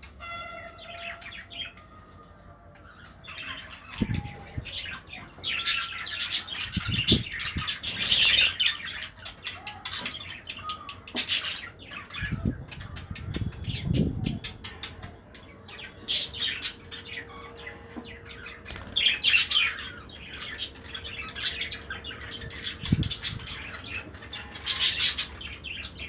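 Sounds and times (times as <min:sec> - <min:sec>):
budgerigars chirping and chattering: 0:00.0 - 0:26.0.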